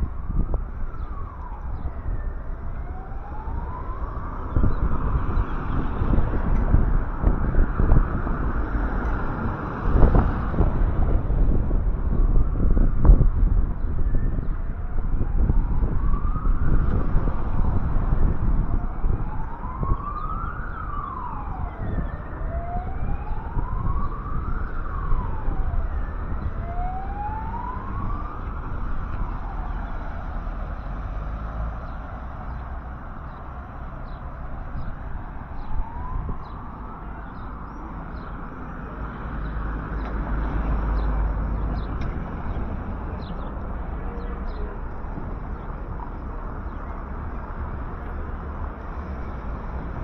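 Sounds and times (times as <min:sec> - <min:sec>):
emergency siren wailing: 0:00.0 - 0:50.0
low street rumble: 0:00.0 - 0:50.0.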